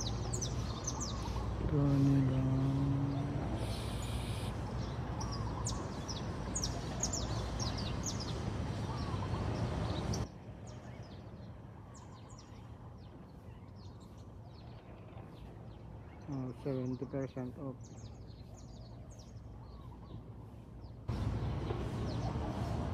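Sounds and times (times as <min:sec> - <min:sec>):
small birds chirping: 0:00.0 - 0:22.9
steady outdoor background noise: 0:00.0 - 0:22.9.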